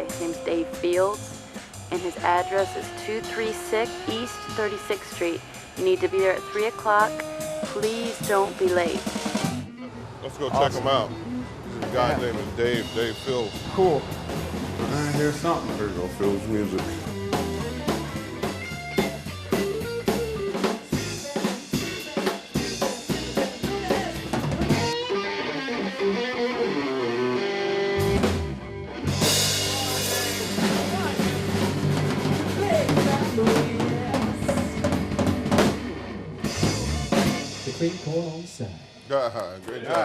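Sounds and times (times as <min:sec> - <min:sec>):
band music: 0:00.0 - 0:40.0.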